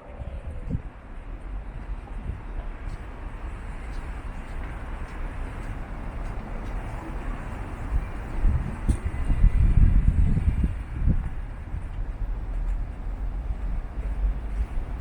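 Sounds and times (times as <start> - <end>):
road traffic hum: 0.0 - 15.0
vehicle rumble: 0.0 - 15.0.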